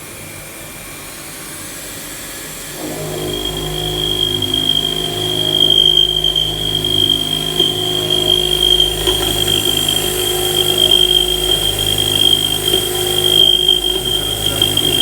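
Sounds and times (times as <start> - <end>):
low machine hum: 2.8 - 15.0
milling spindle high whine: 2.8 - 15.0.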